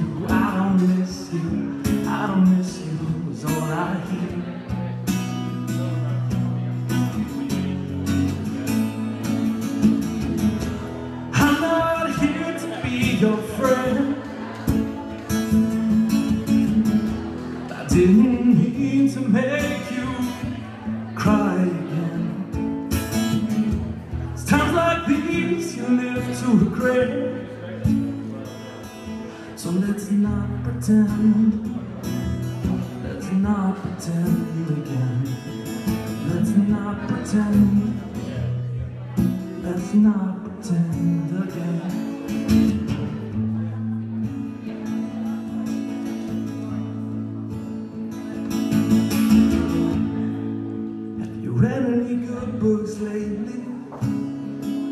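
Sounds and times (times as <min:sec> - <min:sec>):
man singing: 0:00.0 - 0:07.5, 0:11.2 - 0:17.0, 0:17.7 - 0:43.3, 0:49.6 - 0:54.9
acoustic guitar: 0:00.0 - 0:54.9.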